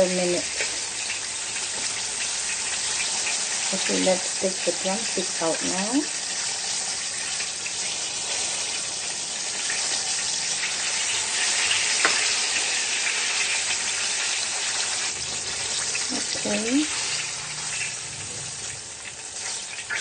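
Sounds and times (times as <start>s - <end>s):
chicken deep-frying in oil: 0.0s - 20.0s.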